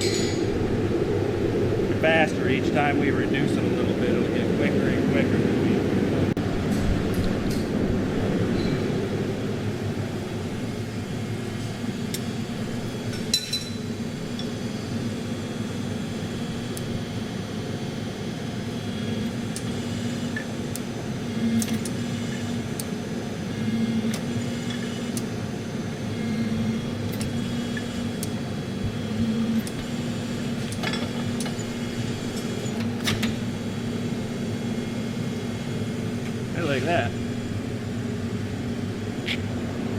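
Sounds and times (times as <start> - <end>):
forge burner and blower drone: 0.0 - 39.9.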